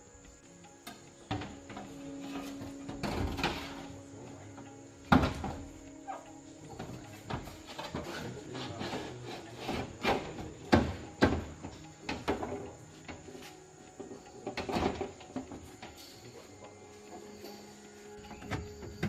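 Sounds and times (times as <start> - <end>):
hand tools knocking and scraping: 0.8 - 16.4, 18.2 - 19.0.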